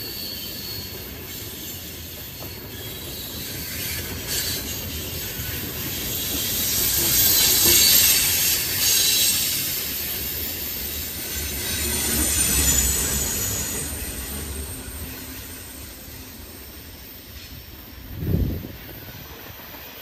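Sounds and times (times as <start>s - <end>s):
faint flange squeal: 0.0s - 19.4s
freight train wheels rumbling: 0.0s - 20.0s.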